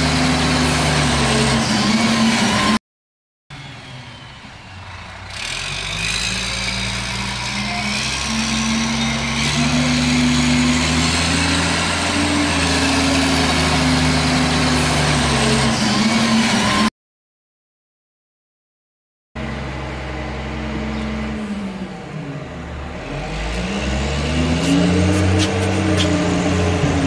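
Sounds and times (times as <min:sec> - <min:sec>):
garbage truck diesel engine: 0:00.0 - 0:02.8, 0:03.5 - 0:16.9, 0:19.4 - 0:27.0.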